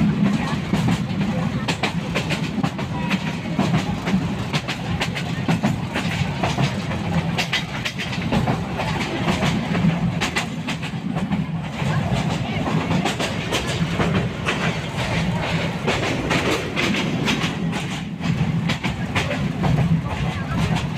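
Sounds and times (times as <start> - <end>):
train rumbling: 0.0 - 20.9
sharp clicks and rattles: 0.2 - 20.9.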